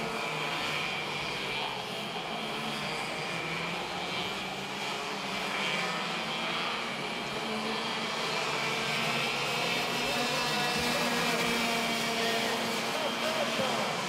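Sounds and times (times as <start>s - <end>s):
kart engines buzzing at high revs: 0.0s - 14.0s.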